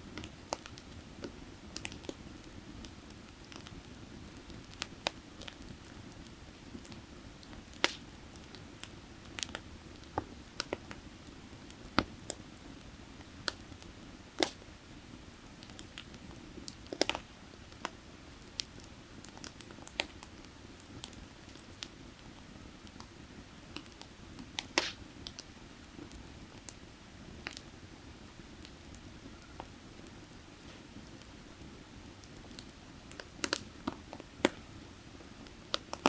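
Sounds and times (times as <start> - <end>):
firewood crackling and popping: 0.0 - 36.0.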